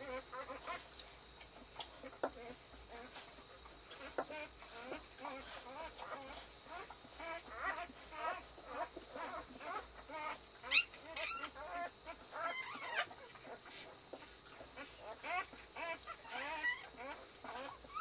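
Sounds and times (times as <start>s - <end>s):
puppies squeaking and whimpering: 0.0s - 0.8s, 3.9s - 18.0s.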